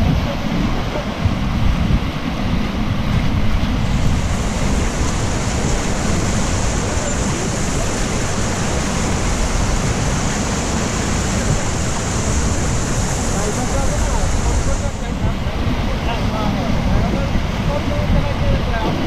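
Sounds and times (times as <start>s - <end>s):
river rapids rushing: 0.0s - 19.0s
wind buffeting microphone: 0.0s - 19.0s.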